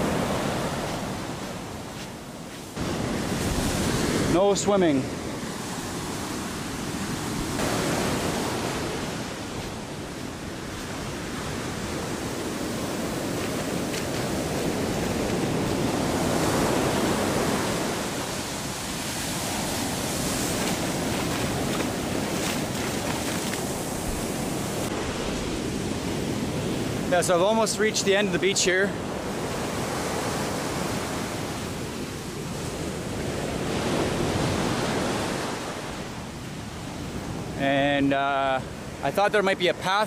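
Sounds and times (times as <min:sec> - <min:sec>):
ocean waves washing onto beach: 0:00.0 - 0:40.0.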